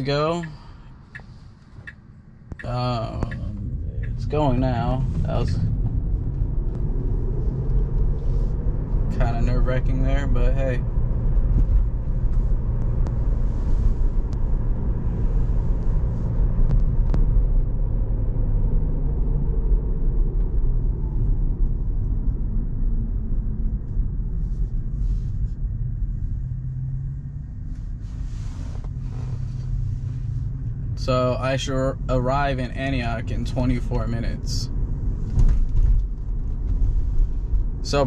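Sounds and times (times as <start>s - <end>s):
road and tyre rumble: 0.0s - 38.0s.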